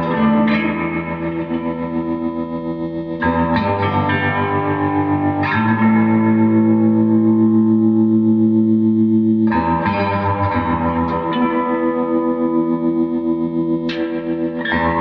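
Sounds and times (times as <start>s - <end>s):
electric guitar chords strummed: 0.0s - 15.0s.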